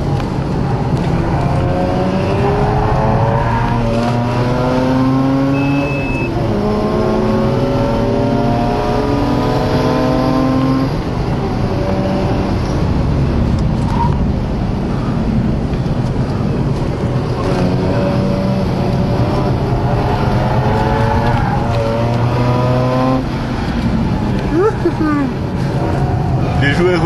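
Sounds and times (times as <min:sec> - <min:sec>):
rotary engine accelerating through gears: 0:00.2 - 0:14.4, 0:15.1 - 0:27.0.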